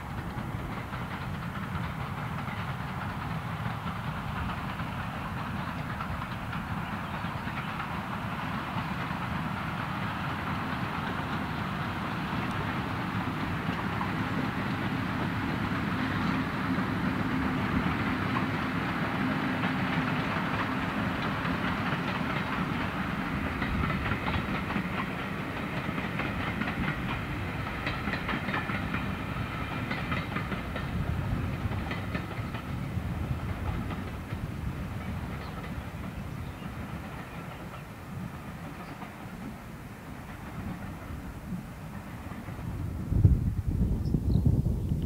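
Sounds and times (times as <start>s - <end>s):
train wheels clicking over rail joints: 0.0s - 43.1s
diesel locomotive engine running: 0.0s - 45.0s.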